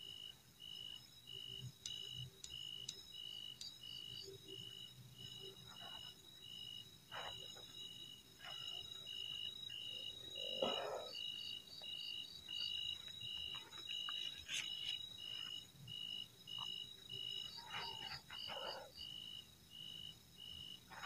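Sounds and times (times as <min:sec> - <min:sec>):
insect high chirp: 0:00.0 - 0:21.0.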